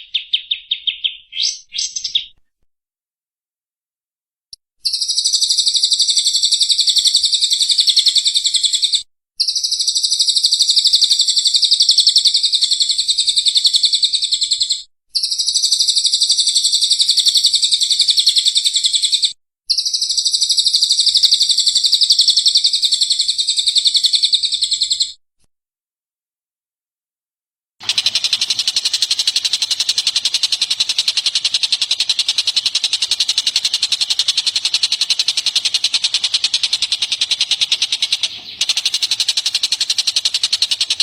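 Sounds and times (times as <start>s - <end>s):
songbird chattering trill: 0.0s - 2.4s, 4.8s - 25.2s, 27.8s - 41.0s.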